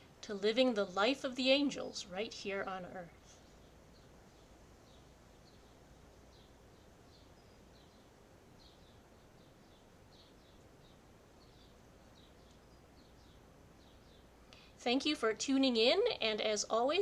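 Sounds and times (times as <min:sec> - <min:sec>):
bird chirping faintly: 0:00.0 - 0:16.8
low steady hum: 0:00.0 - 0:17.0.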